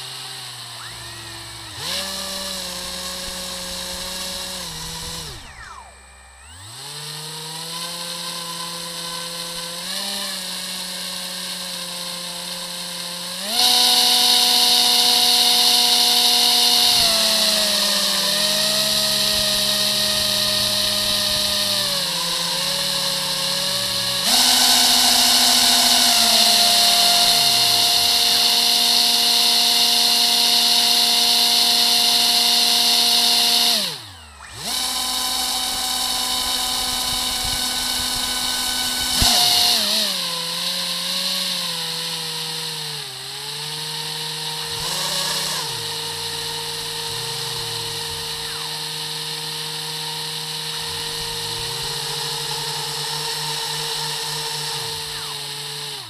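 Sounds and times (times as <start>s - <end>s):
propeller motors whining: 0.0s - 56.0s.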